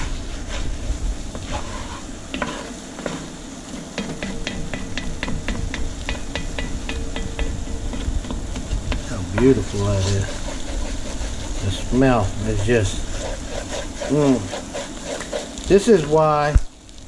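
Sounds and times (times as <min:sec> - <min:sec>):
utensil scraping a pot: 0:00.0 - 0:16.4
sauce sizzling in a pot: 0:00.0 - 0:17.0.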